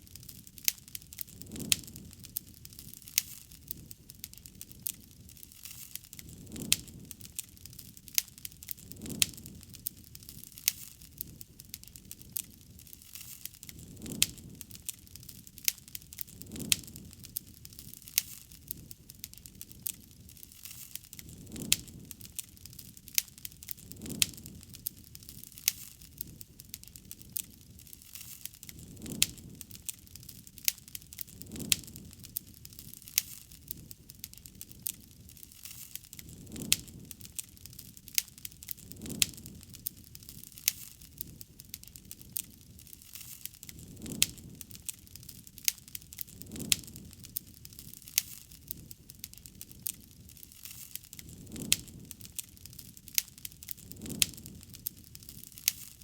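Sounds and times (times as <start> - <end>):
campfire crackling and popping: 0.0 - 56.0
low rumble of flame: 0.0 - 56.0.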